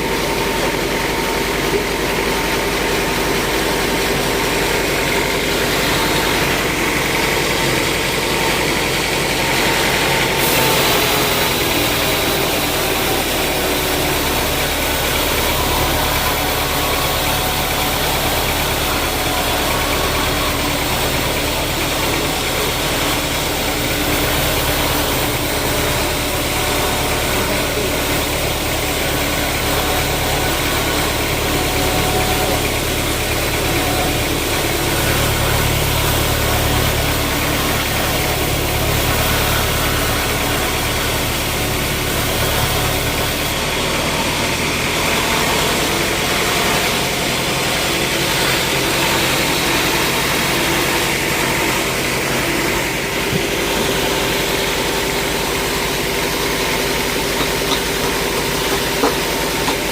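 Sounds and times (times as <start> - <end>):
deep mechanical rumble: 0.0 - 59.9
sawmill machinery running: 0.0 - 59.9.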